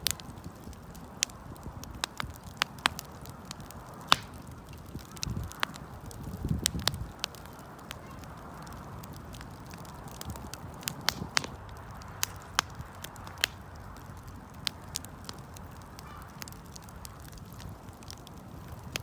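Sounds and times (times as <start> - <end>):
burning wood crackling and popping: 0.0 - 19.0
wood fire hissing: 0.0 - 19.0.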